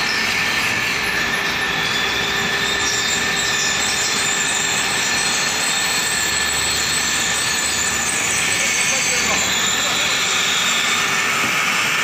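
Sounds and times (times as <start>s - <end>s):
high-pitched machine whine: 0.0s - 12.0s.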